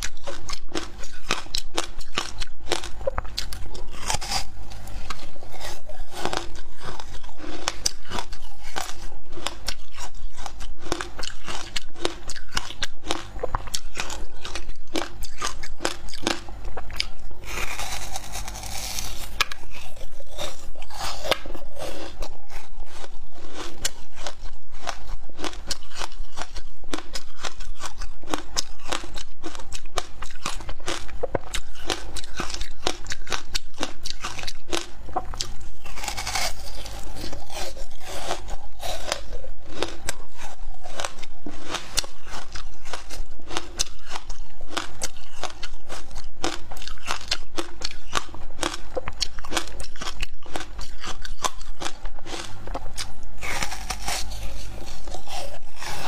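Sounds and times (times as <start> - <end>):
frozen ice being bitten and chewed: 0.0 - 56.0.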